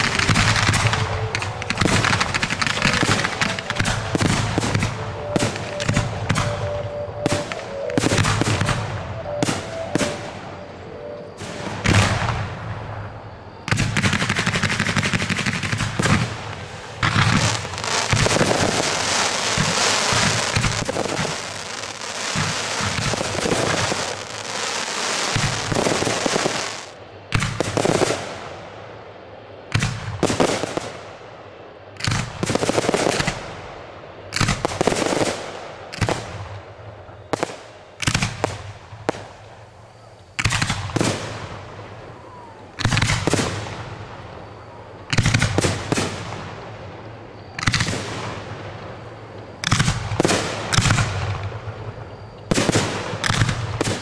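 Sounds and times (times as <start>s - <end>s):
fireworks crackling: 0.0s - 28.4s, 32.0s - 33.6s, 34.3s - 54.0s.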